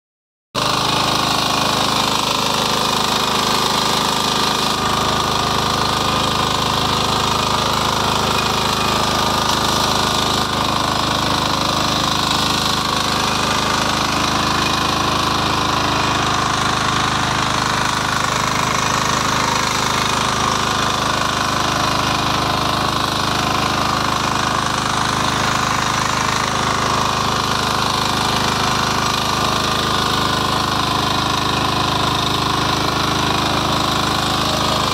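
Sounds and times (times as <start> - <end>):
small engine running under load: 0.6 - 34.9.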